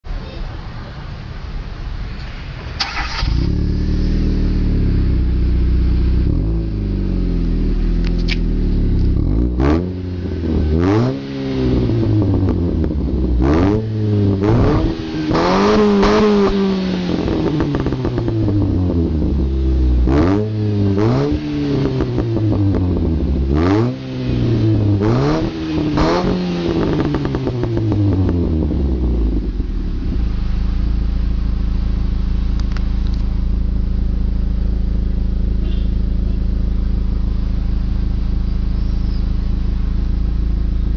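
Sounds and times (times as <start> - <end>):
car engine idling and revving: 0.1 - 40.9.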